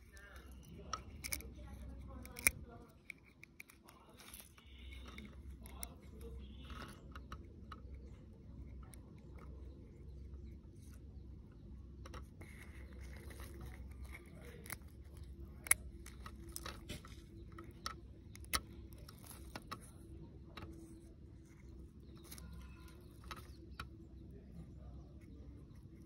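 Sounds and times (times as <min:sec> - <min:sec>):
eggshell crackling and clicking: 0:00.0 - 0:26.0.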